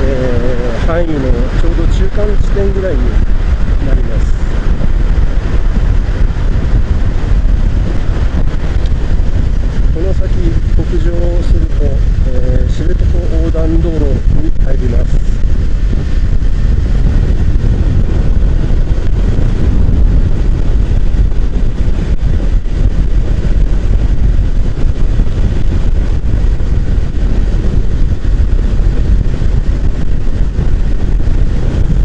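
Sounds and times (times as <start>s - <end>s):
motorcycle road noise: 0.0s - 32.0s
wind rush: 0.0s - 32.0s.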